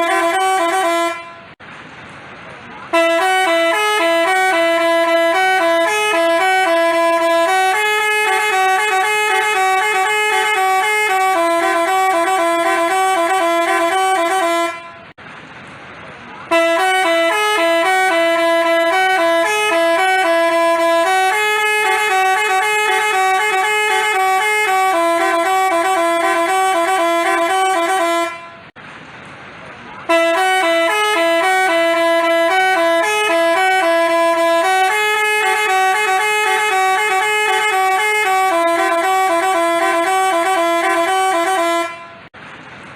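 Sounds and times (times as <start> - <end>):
multi-tone bus horn tune: 0.0 - 1.6, 2.8 - 15.2, 16.4 - 28.8, 30.0 - 42.4.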